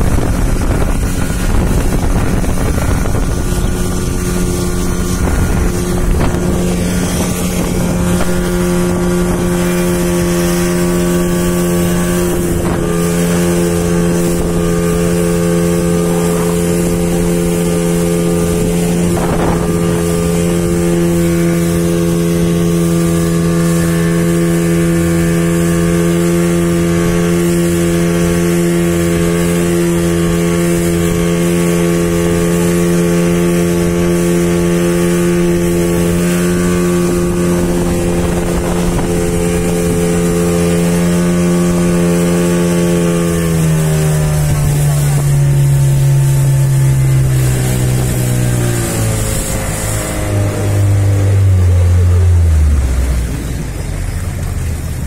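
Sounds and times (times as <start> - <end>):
speedboat engine running: 0.0 - 55.0.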